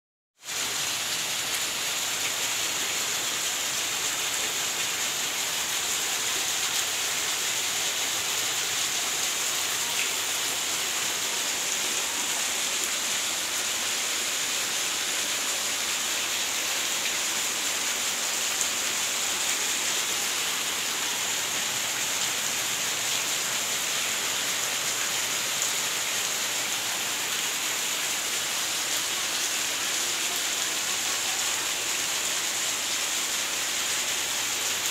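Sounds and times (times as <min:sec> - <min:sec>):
heavy rain downpour: 0:00.4 - 0:34.9.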